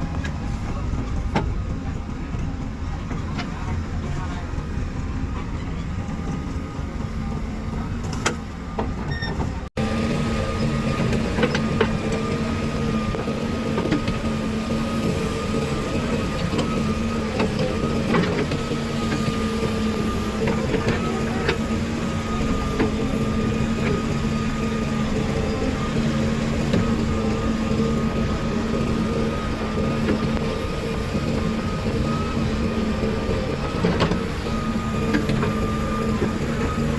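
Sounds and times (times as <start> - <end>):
diesel engines droning: 0.0 - 36.9.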